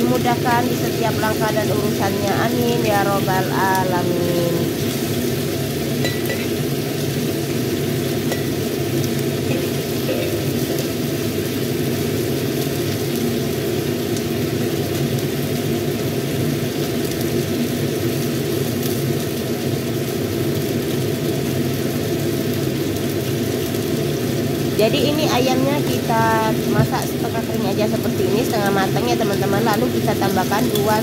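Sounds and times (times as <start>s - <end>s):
chicken frying in a wok: 0.0s - 31.0s.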